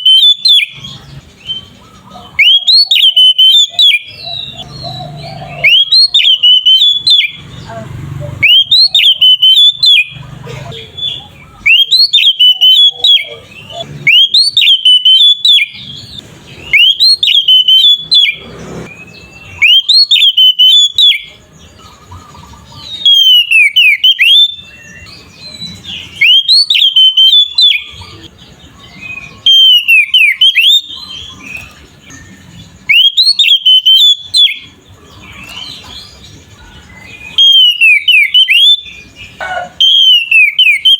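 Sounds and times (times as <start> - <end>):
bird singing whistled phrases: 0.0 - 40.9.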